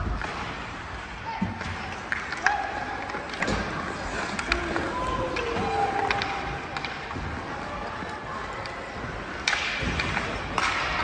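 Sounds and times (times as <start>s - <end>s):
hockey sticks and puck clacking: 0.0s - 11.0s
skate blades scraping ice: 1.9s - 11.0s.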